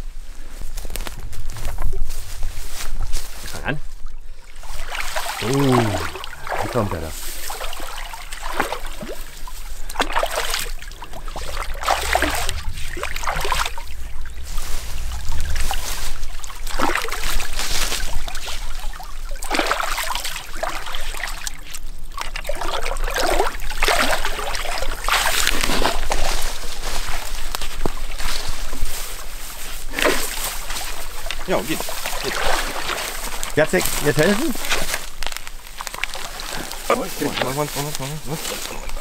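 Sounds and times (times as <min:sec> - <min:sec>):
stream water splashing: 0:03.9 - 0:39.0.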